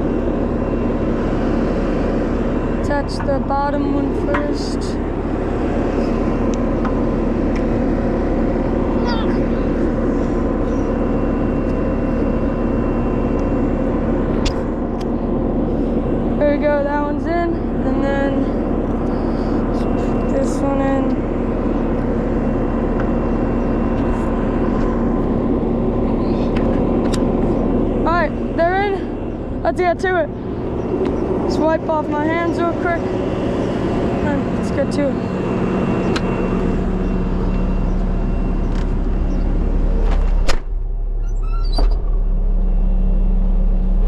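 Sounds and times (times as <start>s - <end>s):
skid steer engine idling: 0.0s - 44.0s.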